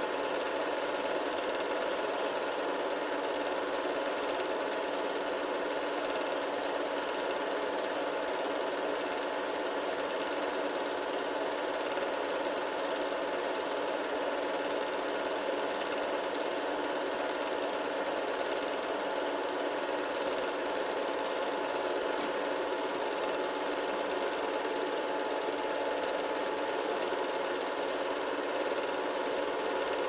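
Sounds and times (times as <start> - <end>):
film projector whirring: 0.0 - 30.0.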